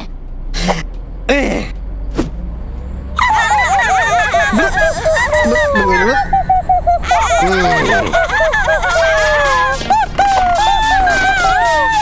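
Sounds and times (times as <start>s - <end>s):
cartoon car engine rumble: 0.0s - 12.0s.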